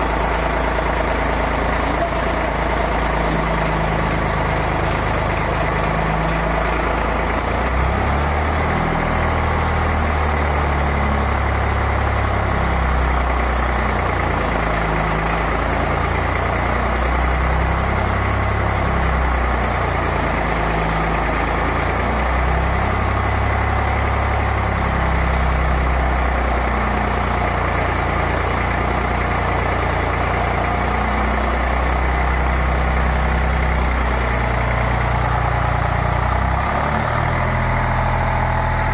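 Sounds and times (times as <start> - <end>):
diesel generator engine running: 0.0 - 38.9.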